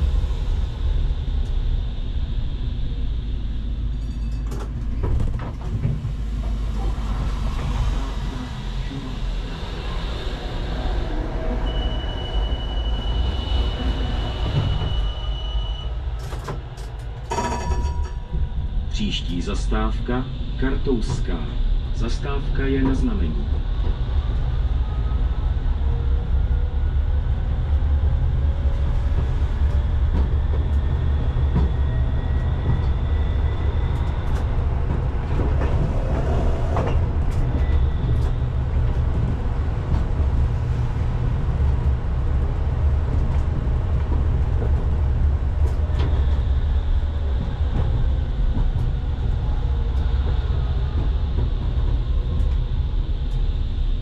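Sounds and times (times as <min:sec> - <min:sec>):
tram wheels rumbling on rail: 0:00.0 - 0:54.0.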